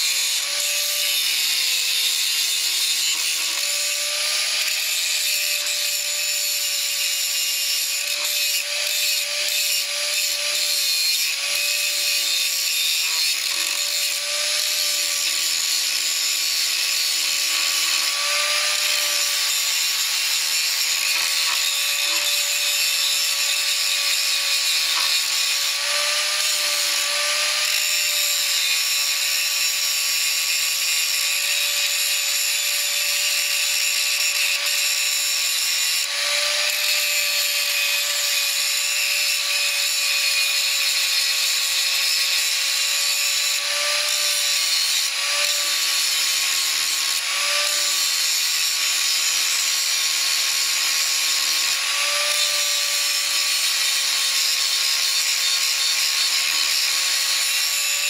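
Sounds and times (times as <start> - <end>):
angle grinder cutting metal: 0.0 - 58.0.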